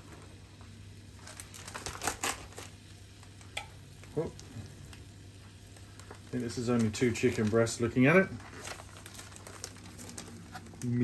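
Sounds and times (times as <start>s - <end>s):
sharp plastic crackles: 0.1s - 11.0s.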